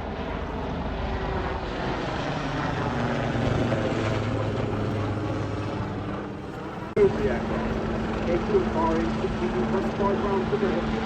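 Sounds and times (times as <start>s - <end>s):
aircraft engine drone: 0.0s - 11.0s
wind: 0.0s - 11.0s.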